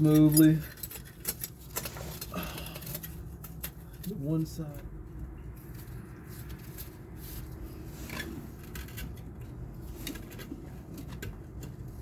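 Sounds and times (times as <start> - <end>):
small metal clicks and scraping: 0.0 - 7.0, 8.0 - 12.0.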